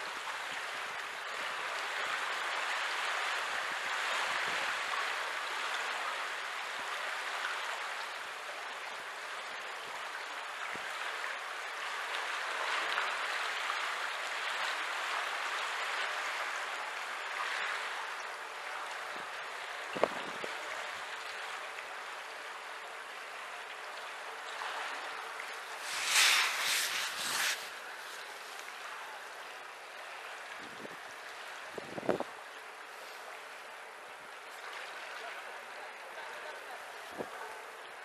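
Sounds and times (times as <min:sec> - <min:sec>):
rushing water in a lock: 0:00.0 - 0:38.0.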